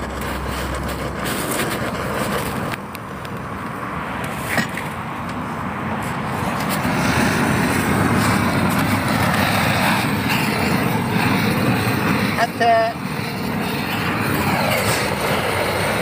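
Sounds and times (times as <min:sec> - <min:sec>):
blowtorch hissing: 0:00.0 - 0:16.0.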